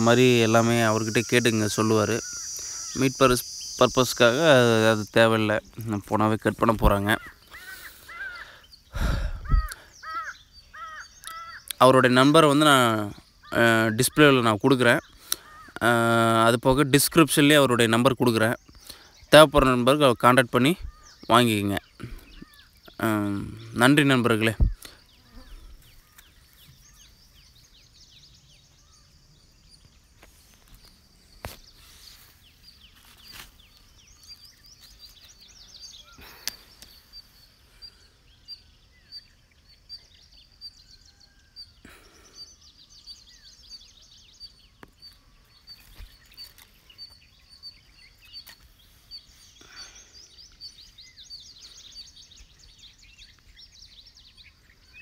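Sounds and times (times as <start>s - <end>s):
faint high bird chirps: 0.0s - 55.0s.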